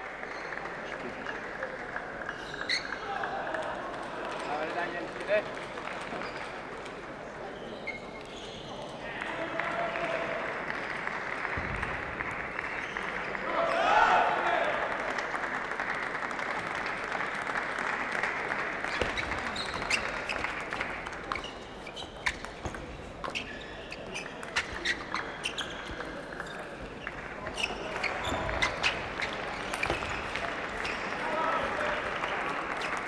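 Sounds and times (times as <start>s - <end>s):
crowd noise in a hall: 0.0s - 33.0s.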